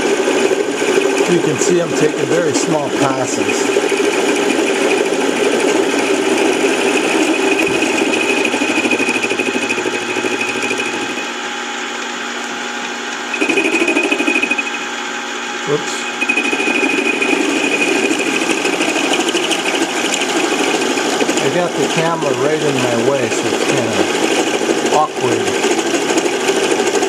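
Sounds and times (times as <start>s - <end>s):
lathe cutter chatter: 0.0s - 27.0s.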